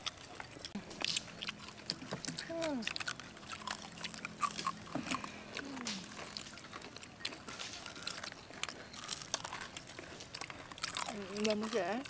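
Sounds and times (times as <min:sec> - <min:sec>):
crunching fritters: 0:00.0 - 0:12.0.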